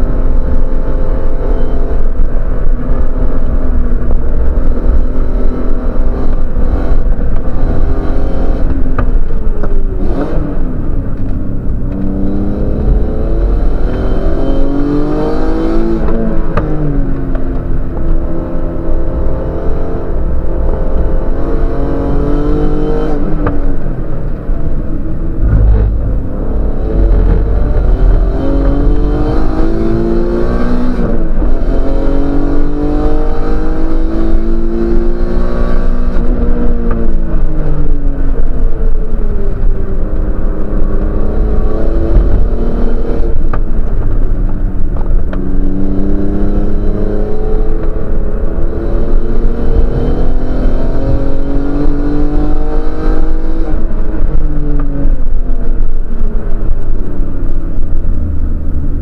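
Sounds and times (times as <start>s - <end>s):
road and wind rumble: 0.0s - 59.0s
race car engine accelerating: 3.3s - 55.3s.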